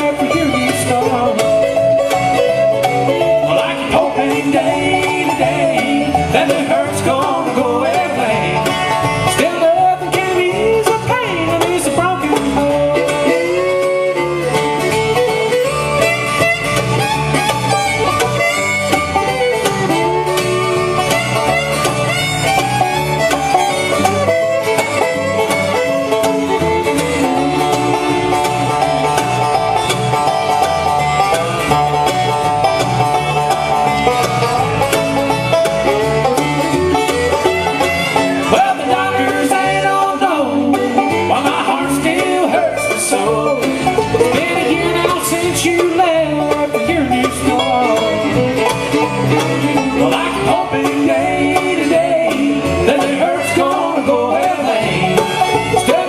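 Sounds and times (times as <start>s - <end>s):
bluegrass band playing: 0.0s - 56.0s.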